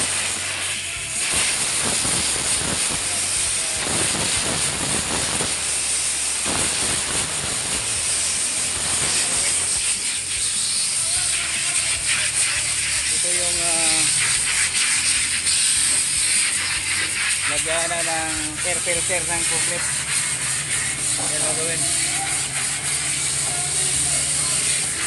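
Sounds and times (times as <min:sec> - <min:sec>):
compressed air hissing from blow gun: 0:00.0 - 0:25.0.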